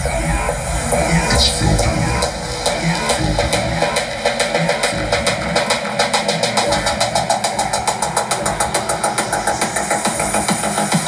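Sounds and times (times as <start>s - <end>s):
drum roll: 0.0s - 11.0s
music with drum beat: 0.0s - 11.0s.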